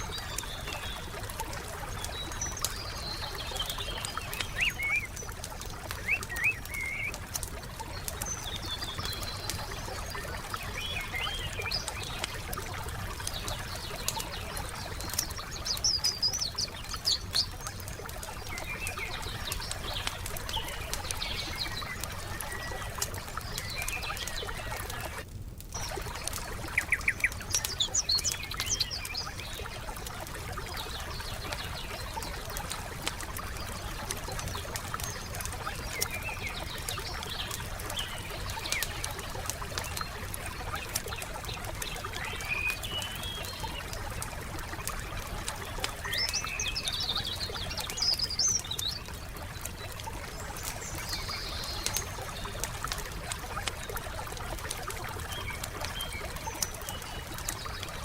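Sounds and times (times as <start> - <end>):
songbirds chirping: 0.0 - 58.0
wood fire crackling: 0.0 - 58.0.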